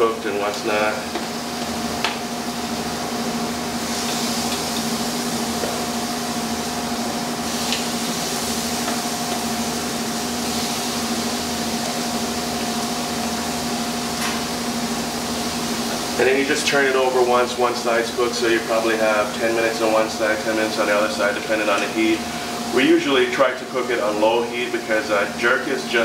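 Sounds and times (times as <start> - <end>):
kitchen exhaust fan humming: 0.0 - 26.0
meat sizzling on a grill: 0.3 - 26.0.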